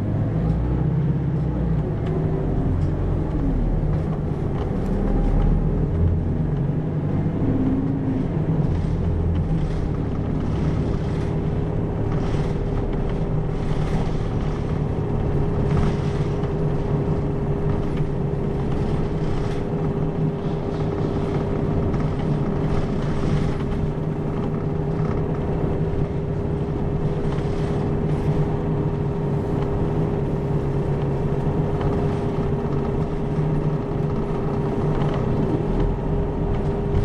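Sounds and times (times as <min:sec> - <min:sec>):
bus diesel engine running: 0:00.0 - 0:37.0.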